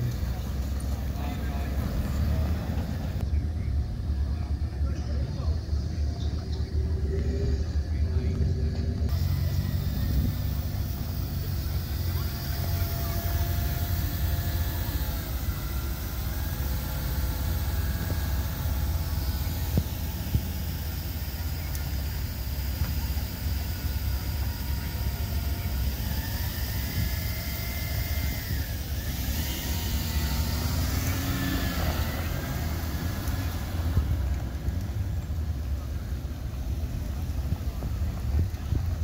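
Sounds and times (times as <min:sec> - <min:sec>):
steady low rumble: 0:00.0 - 0:39.0
vehicles driving on gravel: 0:00.0 - 0:39.0.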